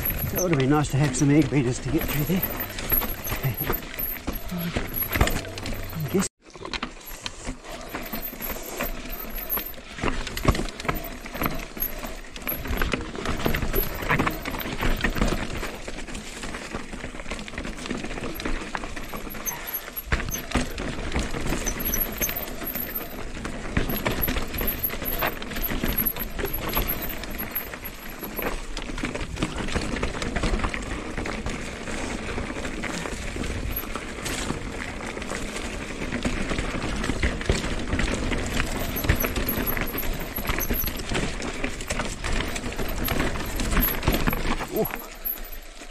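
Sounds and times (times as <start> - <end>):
bike clattering over stones: 0.0 - 45.9.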